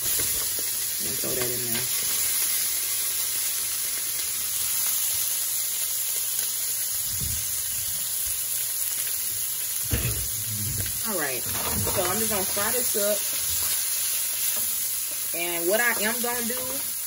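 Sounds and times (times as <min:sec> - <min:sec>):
meat and vegetables sizzling in oil: 0:00.0 - 0:17.0.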